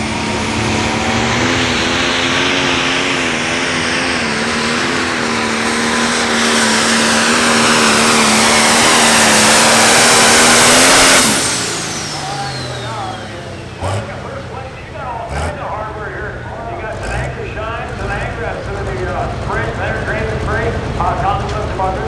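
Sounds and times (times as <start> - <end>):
tractor diesel engine at full throttle: 0.0 - 22.0.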